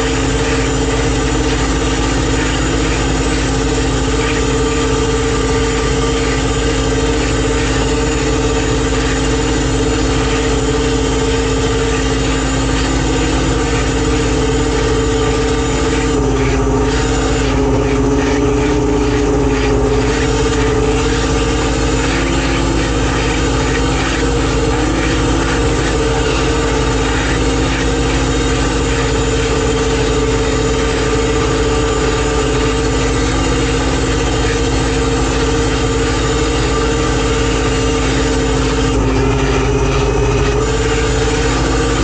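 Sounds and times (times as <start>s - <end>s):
boat machinery droning: 0.0s - 42.0s.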